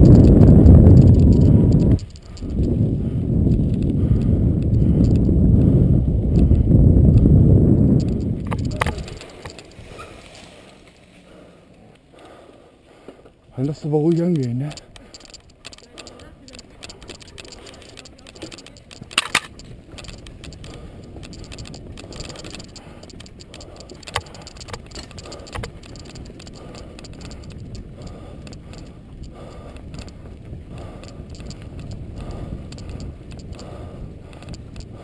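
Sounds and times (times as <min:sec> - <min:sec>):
bike tyres rumbling on dirt: 0:00.0 - 0:11.3, 0:13.5 - 0:35.0
bike rattling and clicking: 0:00.0 - 0:35.0.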